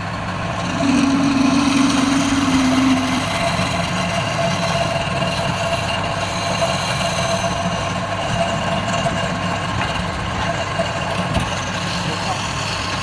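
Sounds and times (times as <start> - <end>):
wood lathe running: 0.0 - 13.0.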